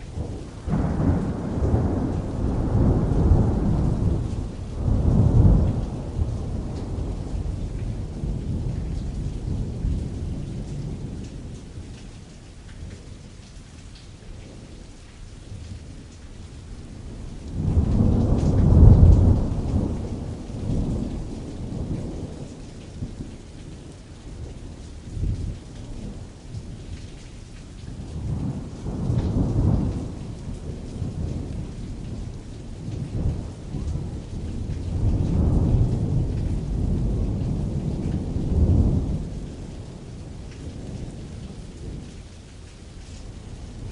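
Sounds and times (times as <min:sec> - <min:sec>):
distant rolling thunder: 0:00.0 - 0:43.9
rain pattering on tent canvas: 0:00.0 - 0:43.9.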